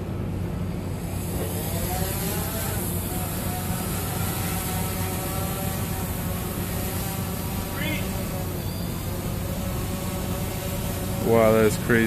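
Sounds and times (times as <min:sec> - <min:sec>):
drone motors whining: 0:00.0 - 0:12.0
steady low hum: 0:00.0 - 0:12.0.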